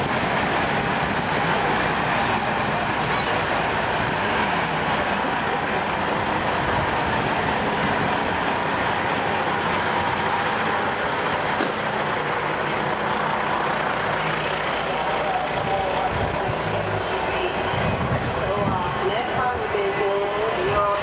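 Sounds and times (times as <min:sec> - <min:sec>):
vehicle engines idling: 0:00.0 - 0:21.0.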